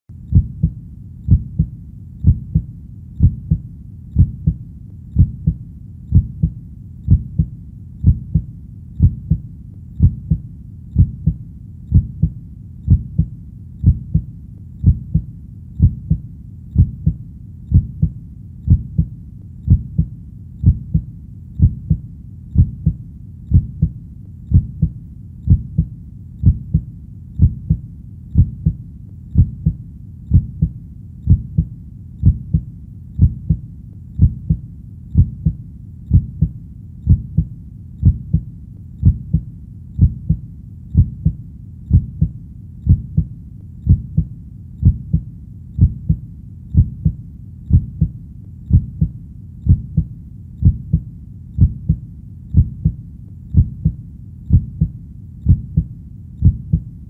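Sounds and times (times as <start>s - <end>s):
constant low rumble: 0.1s - 57.0s
heartbeat thumps: 0.2s - 56.9s.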